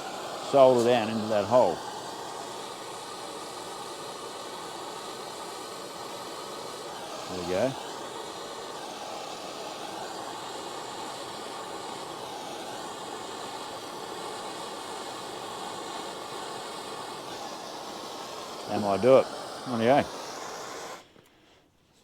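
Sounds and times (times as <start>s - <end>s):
torch flame hissing: 0.0s - 21.6s.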